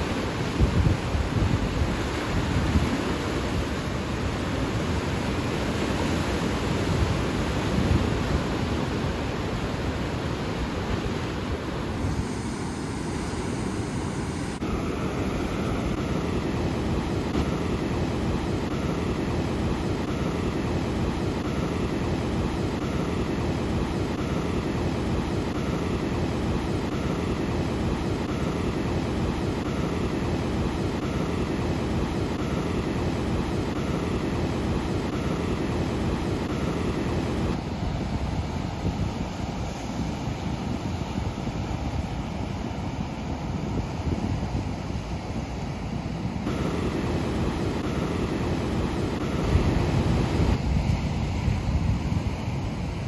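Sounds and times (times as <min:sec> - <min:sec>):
ocean surf breaking on rocks: 0:00.0 - 0:53.0.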